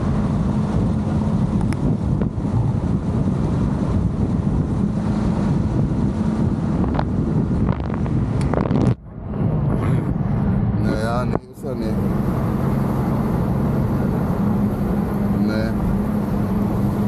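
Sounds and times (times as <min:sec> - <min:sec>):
car engine and road noise: 0:00.0 - 0:17.0
wind buffeting microphone: 0:00.0 - 0:17.0.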